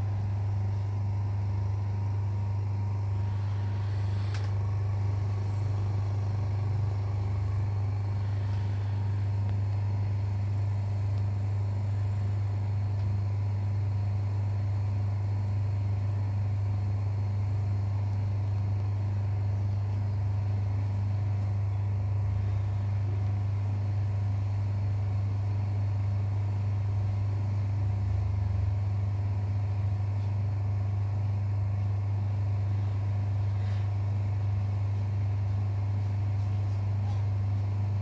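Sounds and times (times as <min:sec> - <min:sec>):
laminating machine humming: 0:00.0 - 0:38.0.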